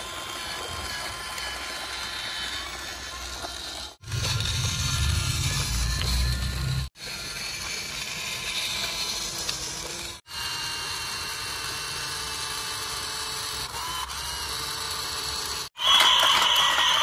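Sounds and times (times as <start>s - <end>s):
toy electric motor whirring: 0.0s - 17.0s.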